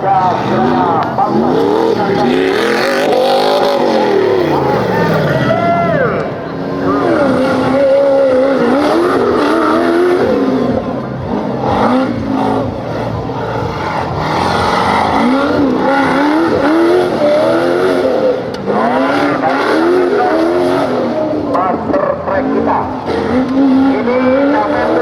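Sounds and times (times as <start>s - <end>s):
engine revving hard: 0.0s - 25.0s.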